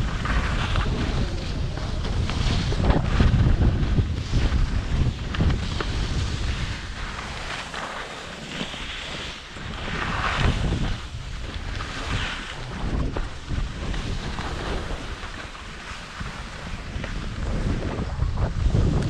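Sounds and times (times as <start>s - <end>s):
wind buffeting microphone: 0.0s - 7.6s, 8.6s - 19.0s
skis hissing over snow: 0.0s - 19.0s.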